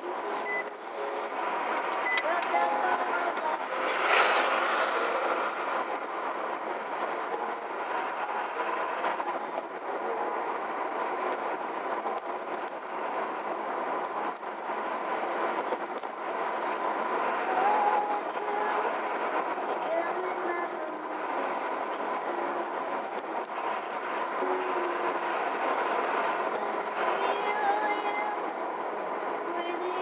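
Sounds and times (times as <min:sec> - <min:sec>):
road and tyre noise: 0:00.0 - 0:30.0.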